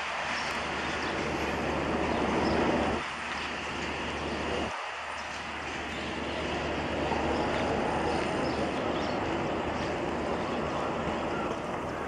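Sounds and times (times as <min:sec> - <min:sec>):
diesel train departing rumble: 0:00.0 - 0:04.7, 0:05.4 - 0:12.0.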